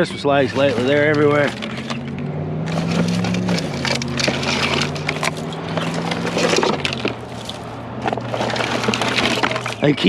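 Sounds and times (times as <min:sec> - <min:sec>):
scrap wire clattering and rustling: 0:00.4 - 0:10.0.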